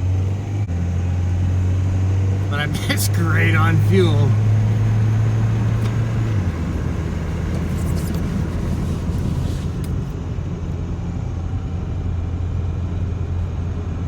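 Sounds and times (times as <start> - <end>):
car engine humming: 0.0 - 14.0
road noise: 0.0 - 14.0.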